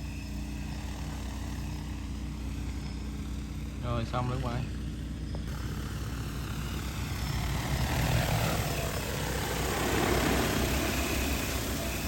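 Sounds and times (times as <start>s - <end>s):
drone rotors whirring: 0.0s - 12.0s.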